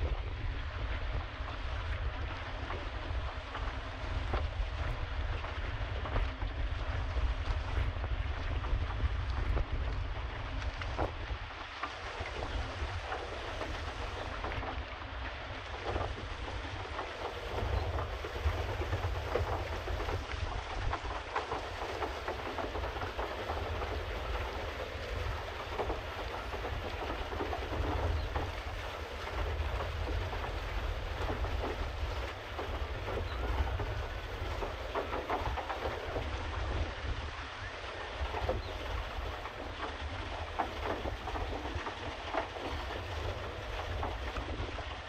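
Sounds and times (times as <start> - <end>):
paddle wheel splashing water: 0.0 - 45.0
wind rumble on microphone: 0.0 - 45.0.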